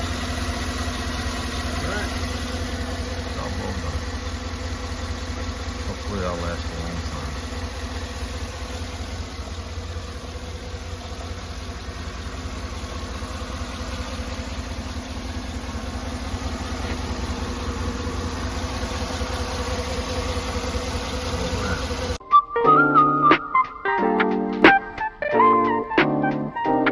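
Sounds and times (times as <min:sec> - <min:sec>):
car engine idling: 0:00.0 - 0:22.2.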